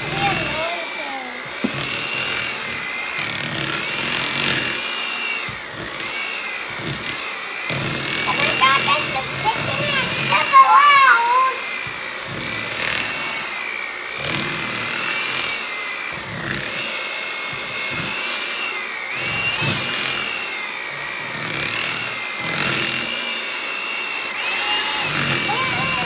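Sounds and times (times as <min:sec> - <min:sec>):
electric hand mixer running: 0:00.0 - 0:26.0.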